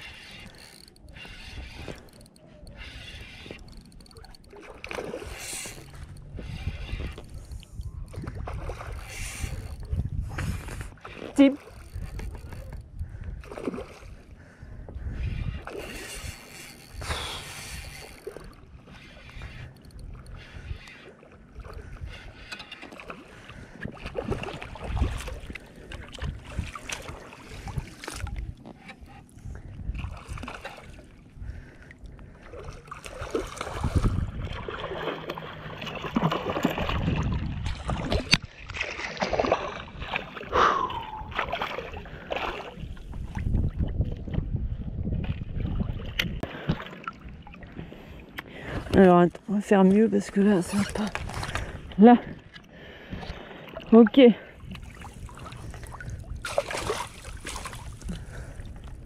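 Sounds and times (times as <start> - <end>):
water sloshing and splashing: 0.0 - 59.0.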